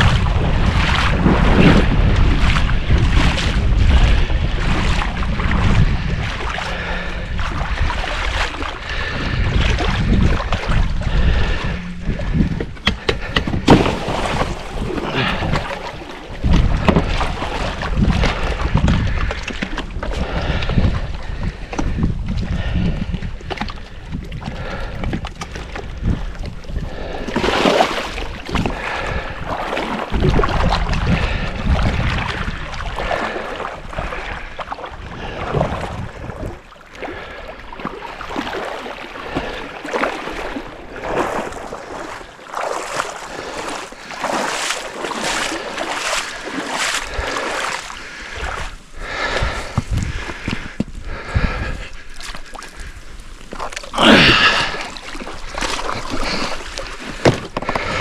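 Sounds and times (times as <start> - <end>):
water sloshing and splashing: 0.0 - 58.0
wind buffeting microphone: 0.0 - 58.0.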